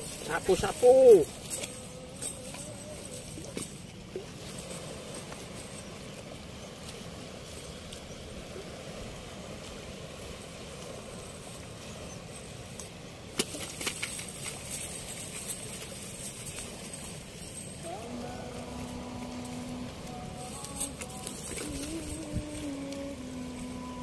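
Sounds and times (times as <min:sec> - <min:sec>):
water rushing through weir: 0:00.0 - 0:24.0.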